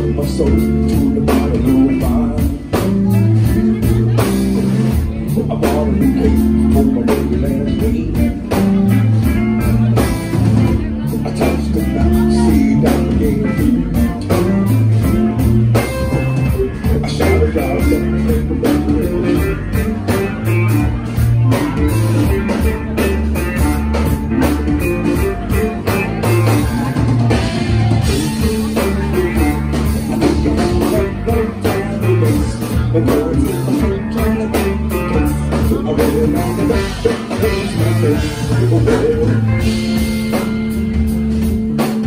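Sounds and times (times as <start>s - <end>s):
live blues-rock band: 0.0s - 42.0s.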